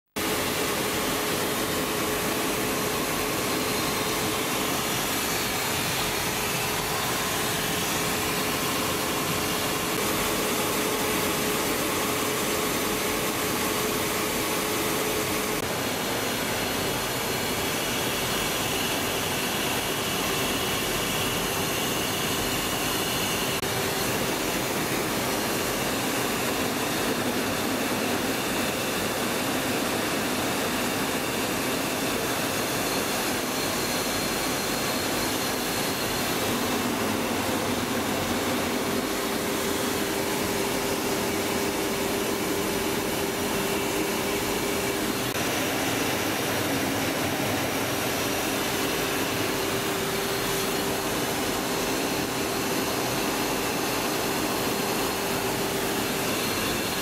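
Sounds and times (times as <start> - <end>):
jet cockpit airflow and engine hum: 0.1 - 57.0.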